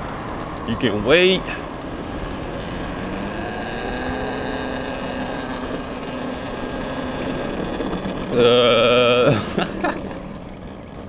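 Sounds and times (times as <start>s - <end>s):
electric dirt bike motor whining: 0.0s - 11.0s
loud steady tone: 0.0s - 11.0s
road noise: 0.0s - 11.0s.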